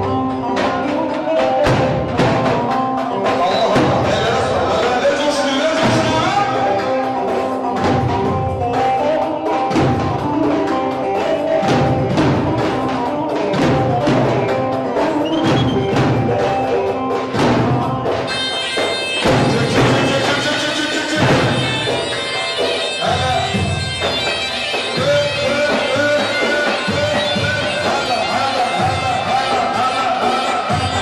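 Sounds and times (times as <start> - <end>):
drums beating steady rhythm: 0.0 - 31.0
held folk melody: 0.0 - 31.0.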